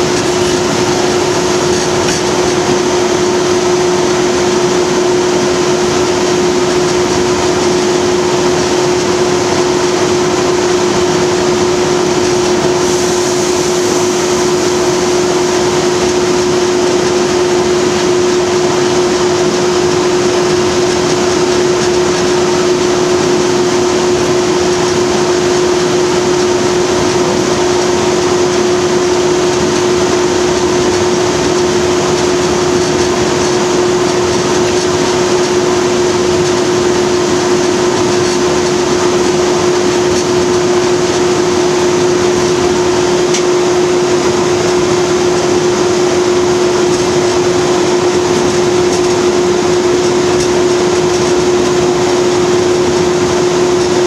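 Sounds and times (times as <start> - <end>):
locomotive engine drone: 0.0 - 54.0
train running noise: 0.0 - 54.0.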